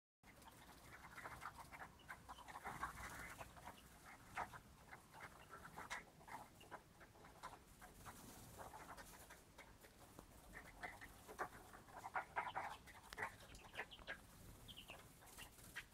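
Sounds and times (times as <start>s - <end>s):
bird calls: 0.3s - 9.8s, 10.5s - 15.9s.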